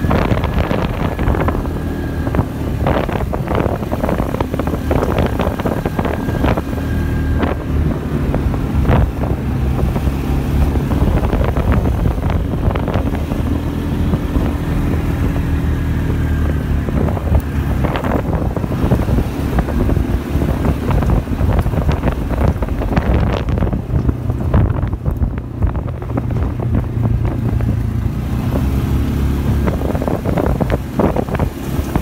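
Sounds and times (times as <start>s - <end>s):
atv engine running: 0.0s - 32.0s
wind buffeting microphone: 0.0s - 32.0s.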